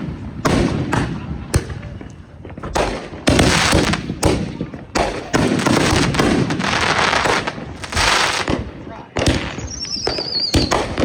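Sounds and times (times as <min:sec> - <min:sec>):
firework bangs: 0:00.0 - 0:11.0
firework crackling: 0:00.0 - 0:11.0.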